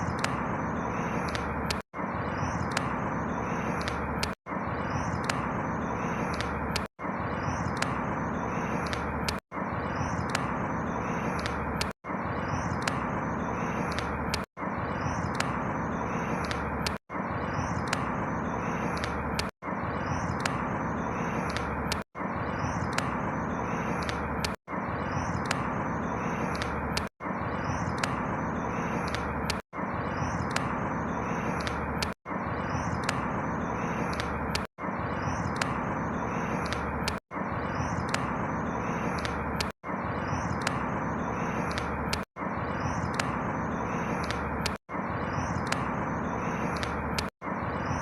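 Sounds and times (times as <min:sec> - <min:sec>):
small bird chirps: 0:00.0 - 0:48.0
steady background rush: 0:00.0 - 0:48.0.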